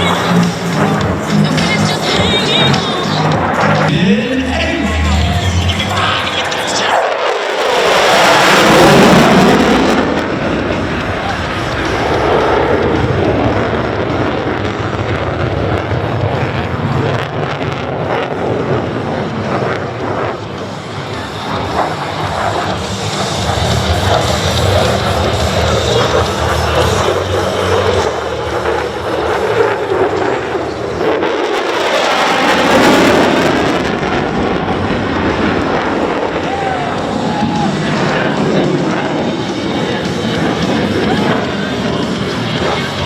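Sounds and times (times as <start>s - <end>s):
fighter jets roaring: 0.0s - 43.0s.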